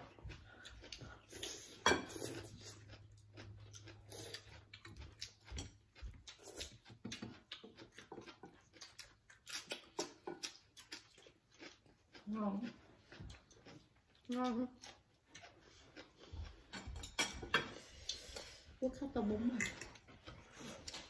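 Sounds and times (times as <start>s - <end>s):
noodles being slurped and chewed: 0.0s - 21.0s.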